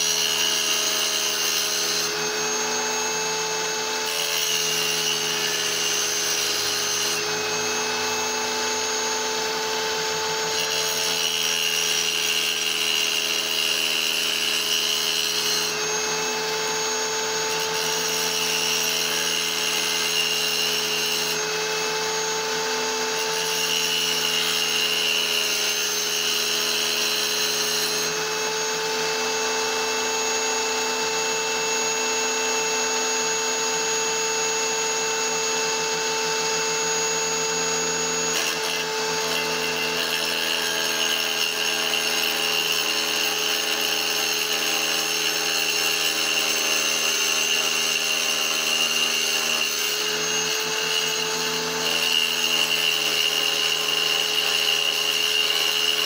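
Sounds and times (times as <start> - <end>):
electric tile saw running: 0.0 - 56.0
saw blade grinding wood: 0.0 - 56.0.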